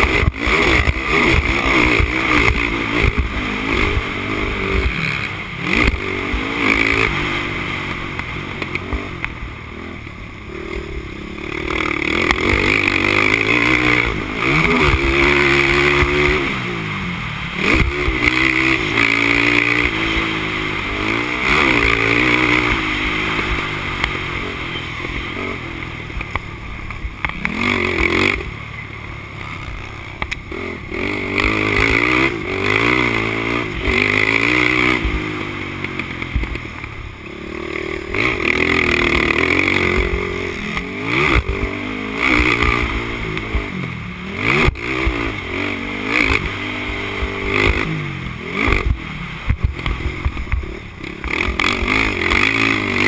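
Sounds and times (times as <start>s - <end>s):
quad engine revving: 0.0s - 26.4s, 27.1s - 53.0s.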